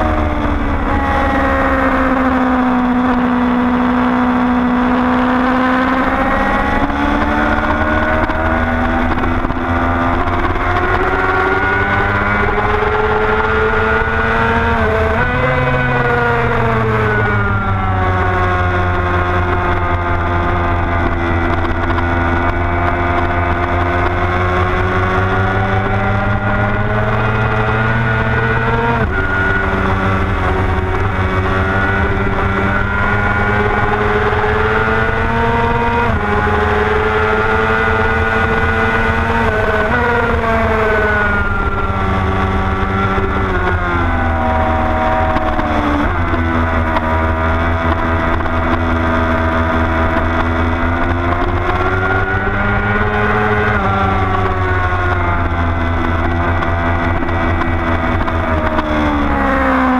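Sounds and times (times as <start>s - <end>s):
motorcycle engine running hard: 0.0s - 59.9s.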